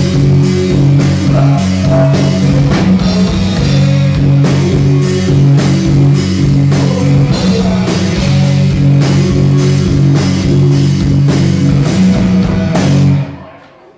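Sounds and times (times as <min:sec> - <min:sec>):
drum kit steady beat: 0:00.0 - 0:13.4
rock band playing live: 0:00.0 - 0:13.5.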